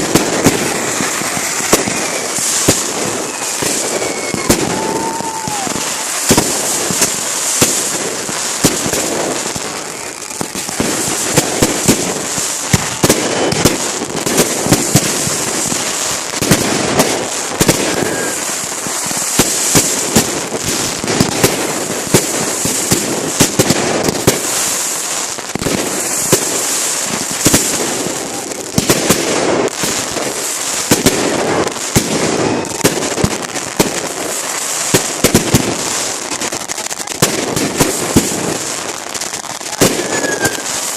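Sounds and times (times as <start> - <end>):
crackling hiss: 0.0 - 40.9
fireworks bangs and pops: 0.0 - 40.9.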